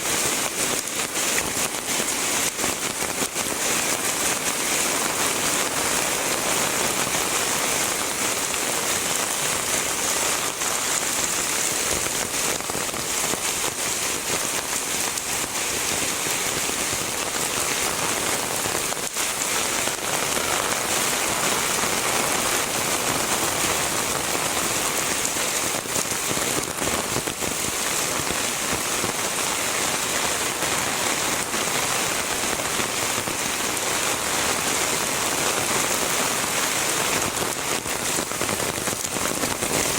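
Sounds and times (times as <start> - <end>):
heavy rain: 0.0 - 39.9
rain drop hits: 0.0 - 39.9.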